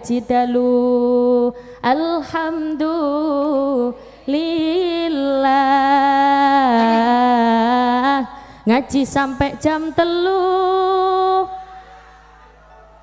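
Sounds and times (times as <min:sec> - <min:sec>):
woman singing unaccompanied: 0:00.0 - 0:11.7.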